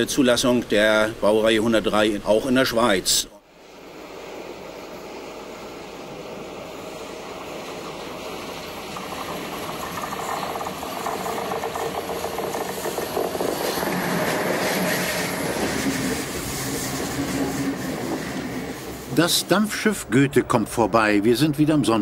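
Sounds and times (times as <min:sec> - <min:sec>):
train rolling past: 0:03.6 - 0:22.0.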